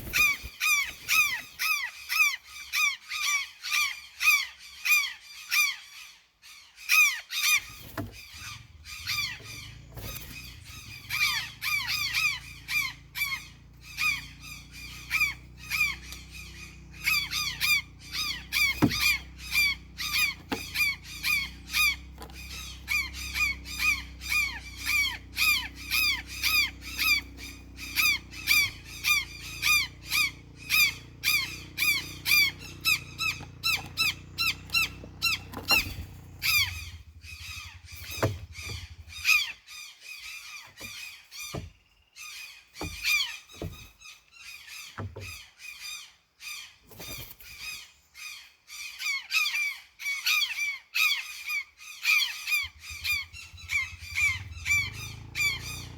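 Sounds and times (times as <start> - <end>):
birds squawking: 0.0 - 55.9.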